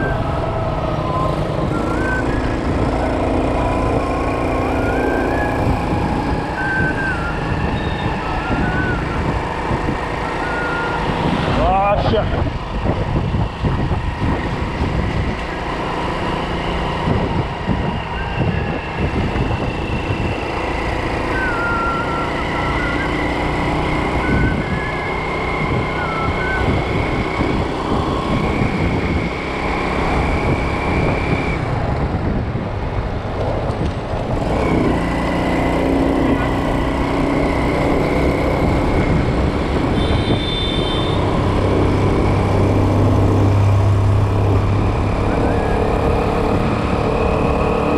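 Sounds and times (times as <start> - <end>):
road noise: 0.0 - 47.9
vehicles passing: 0.0 - 47.9.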